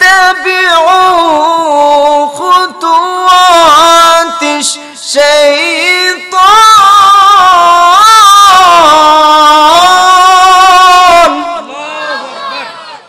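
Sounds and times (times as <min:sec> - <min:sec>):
man chanting through microphone: 0:00.0 - 0:12.4.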